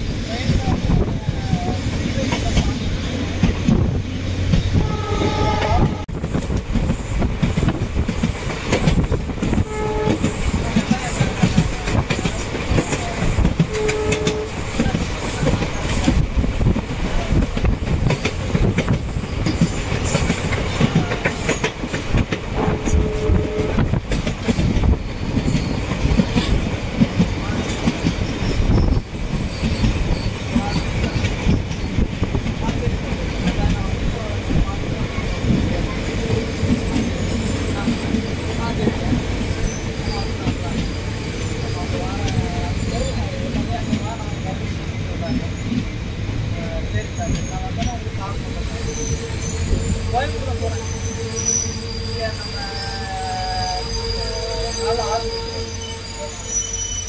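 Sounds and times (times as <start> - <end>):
rush of wind: 0.0 - 50.1
train wheels clattering: 0.4 - 57.0.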